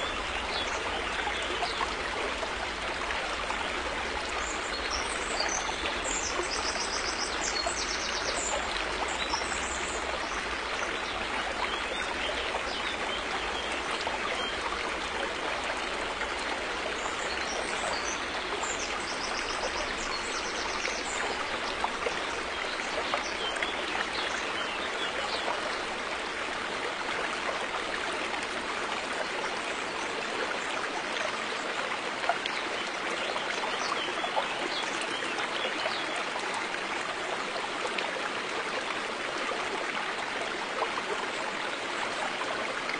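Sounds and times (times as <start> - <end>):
river water flowing: 0.0 - 42.9.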